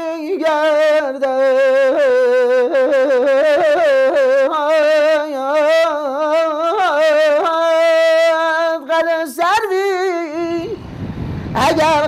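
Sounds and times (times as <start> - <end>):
man singing unaccompanied: 0.0 - 10.9, 11.5 - 12.0.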